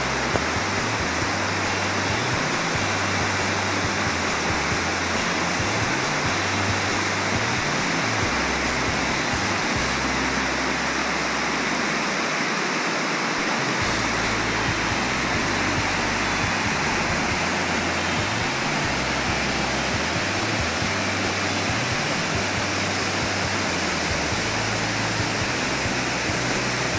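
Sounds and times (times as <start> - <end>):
river rushing over boulders: 0.0 - 26.9.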